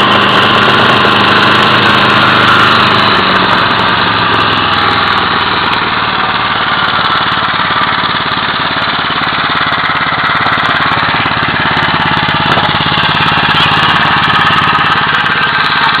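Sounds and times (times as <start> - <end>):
petrol engine running steadily: 0.0 - 16.0.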